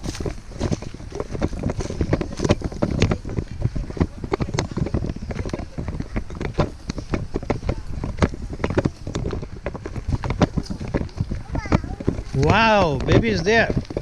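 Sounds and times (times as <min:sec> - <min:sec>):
footsteps crunching on a trail: 0:00.0 - 0:14.0
wind buffeting the microphone: 0:00.0 - 0:14.0.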